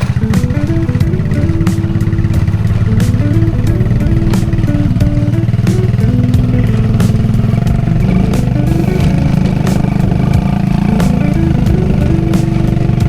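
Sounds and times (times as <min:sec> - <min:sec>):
background music: 0:00.0 - 0:13.0
motorcycle engine running: 0:00.0 - 0:13.0.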